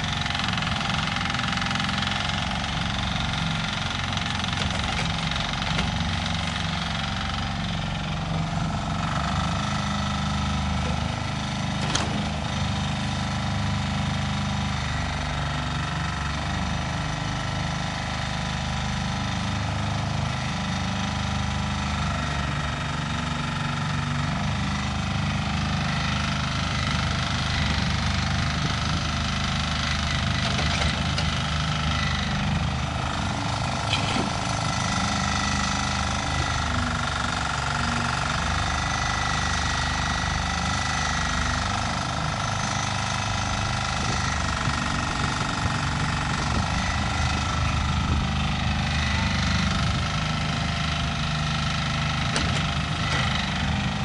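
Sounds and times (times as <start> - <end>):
excavator engine running: 0.0 - 54.0.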